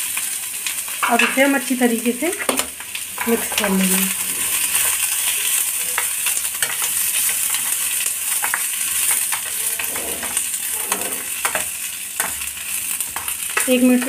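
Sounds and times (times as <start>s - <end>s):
vegetables sizzling in oil: 0.0s - 14.0s
spatula scraping and tapping pan: 2.3s - 14.0s.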